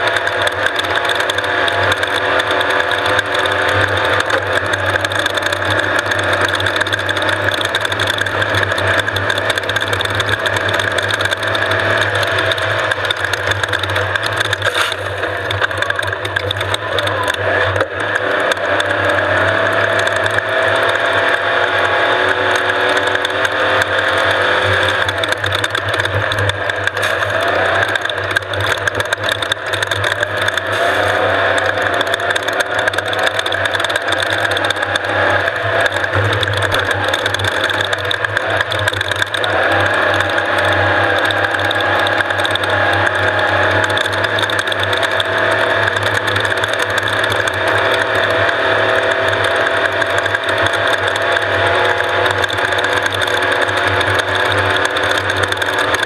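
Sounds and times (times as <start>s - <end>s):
off-road engine running hard: 0.0s - 56.0s
mechanical rattle: 0.1s - 21.4s, 22.2s - 56.0s.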